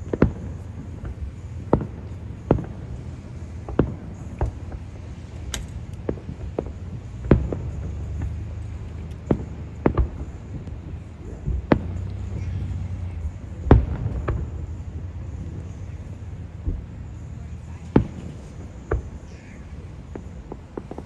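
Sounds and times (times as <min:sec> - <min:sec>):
distant firework booms: 0:00.0 - 0:17.2, 0:17.9 - 0:19.5
low rumble: 0:00.0 - 0:21.0.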